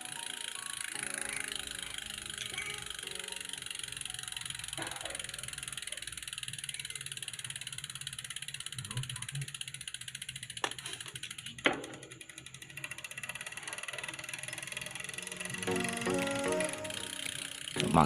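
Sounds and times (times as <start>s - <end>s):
bicycle drivetrain ticking: 0.0s - 18.0s.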